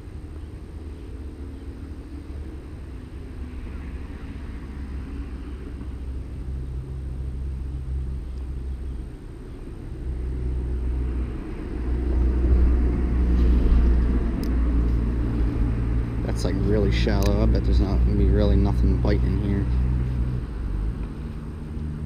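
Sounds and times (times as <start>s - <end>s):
low vehicle engine rumble: 0.0s - 22.0s.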